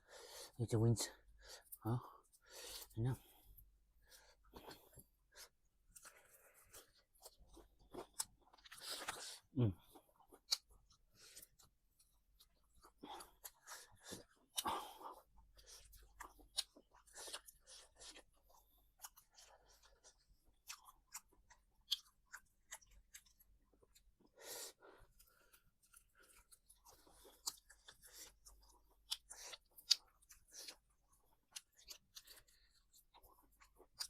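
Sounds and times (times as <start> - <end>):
chewing and crunching: 4.4 - 34.0.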